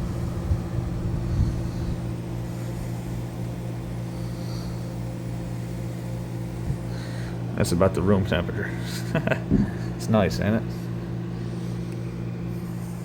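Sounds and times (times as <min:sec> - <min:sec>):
air conditioner compressor hum: 0:00.0 - 0:13.0
fan air rushing: 0:00.0 - 0:13.0.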